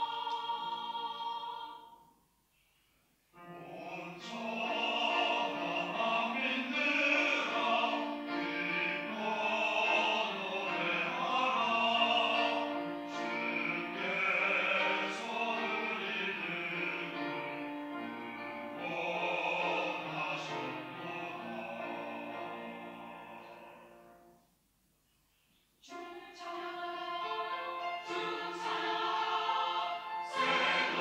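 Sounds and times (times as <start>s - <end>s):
mixed choir singing: 0.0s - 2.0s, 3.5s - 24.1s, 25.8s - 31.0s.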